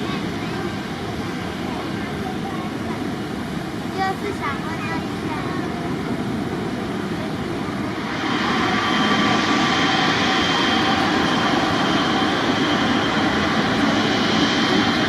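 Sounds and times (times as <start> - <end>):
high engine whine: 0.0 - 15.0
jet engines running: 0.0 - 15.0.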